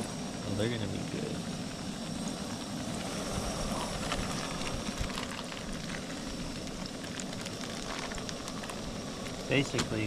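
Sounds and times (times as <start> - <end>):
batter sizzling in grease: 0.0 - 10.0.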